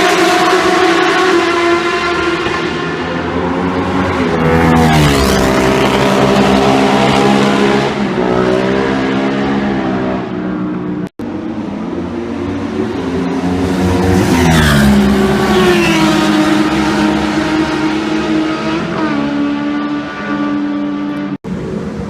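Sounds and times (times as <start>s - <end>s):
motorbike passing at high revs: 0.0s - 10.6s, 11.4s - 22.0s
motorbike engines revving: 0.0s - 22.0s.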